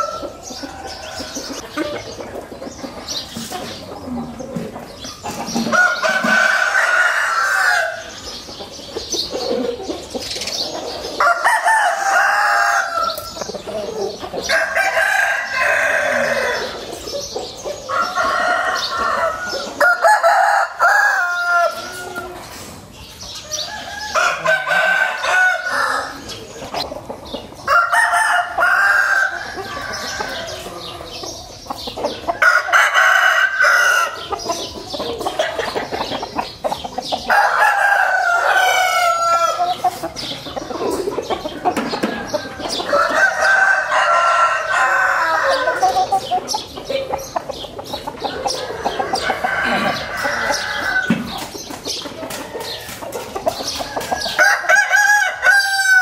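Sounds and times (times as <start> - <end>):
chicken clucking: 0.0 - 56.0
roosters crowing: 0.0 - 56.0.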